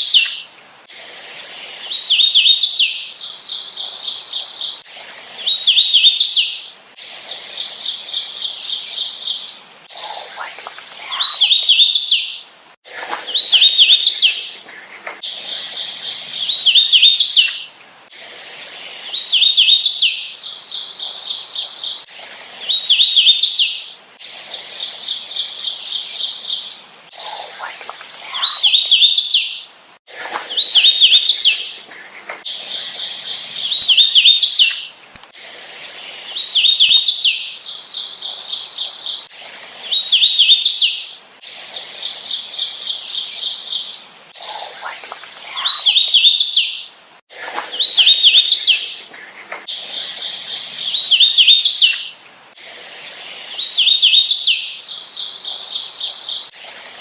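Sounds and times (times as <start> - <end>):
warbler singing: 0.0 - 0.6, 1.6 - 6.7, 7.4 - 12.5, 13.2 - 17.8, 18.9 - 23.9, 24.5 - 29.7, 30.3 - 35.0, 36.1 - 41.2, 42.0 - 47.0, 47.6 - 52.2, 53.1 - 56.6.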